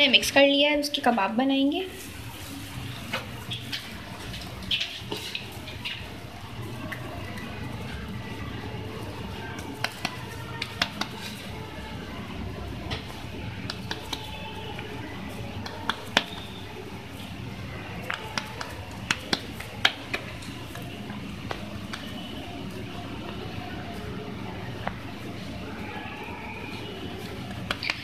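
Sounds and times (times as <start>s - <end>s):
hands kneading soft mixture: 0.0s - 28.0s.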